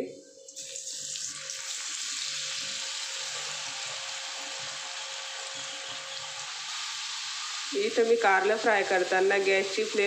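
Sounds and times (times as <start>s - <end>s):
food deep-frying in oil: 0.5s - 10.0s.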